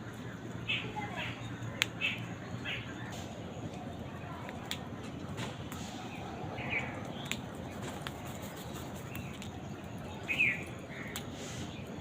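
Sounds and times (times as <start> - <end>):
birds chirping: 0.0 - 12.0
steady background noise: 0.0 - 12.0.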